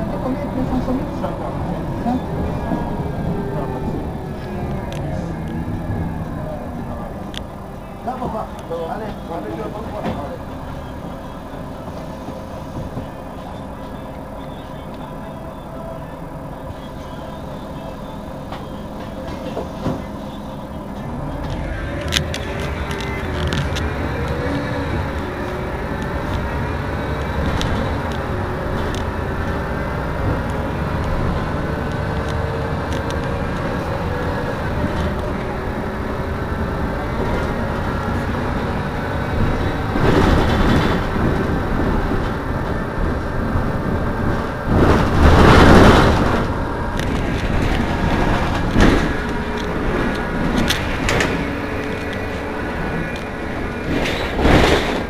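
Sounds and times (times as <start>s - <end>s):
bus idling: 0.0s - 55.0s.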